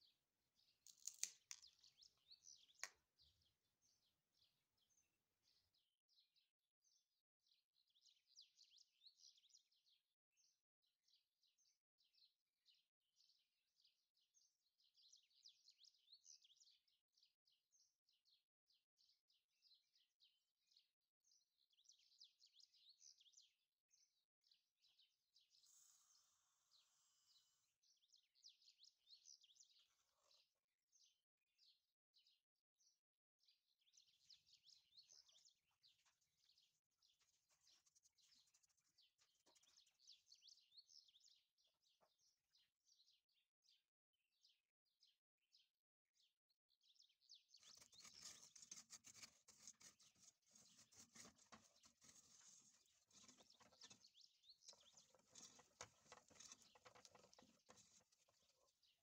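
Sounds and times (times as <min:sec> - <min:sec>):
faint bird chirping: 0:00.0 - 0:59.0.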